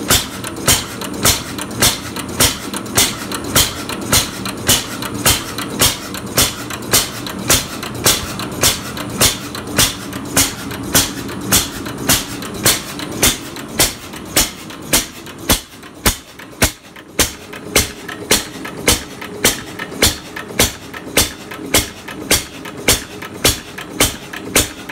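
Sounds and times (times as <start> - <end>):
stationary gas engine running: 0.0 - 24.9.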